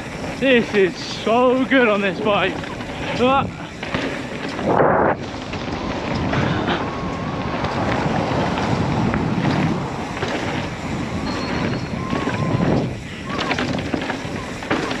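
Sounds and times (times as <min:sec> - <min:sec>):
mountain bike rumbling on dirt: 0:00.0 - 0:15.0
wind buffeting microphone: 0:00.0 - 0:15.0.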